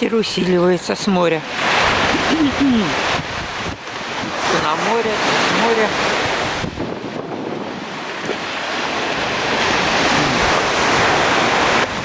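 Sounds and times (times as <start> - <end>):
waves breaking on stony shore: 0.0 - 12.0
wind buffeting microphone: 1.5 - 12.0.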